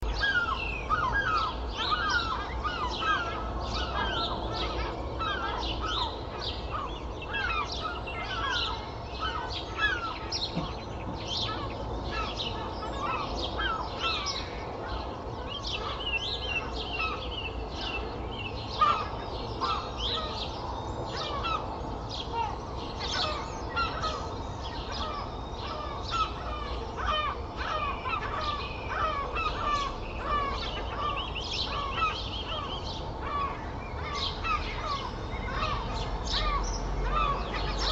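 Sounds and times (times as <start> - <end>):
gull calls: 0.0 - 18.1, 18.7 - 37.9
birds chirping and singing: 0.0 - 37.9
low rumble of traffic: 0.0 - 37.9.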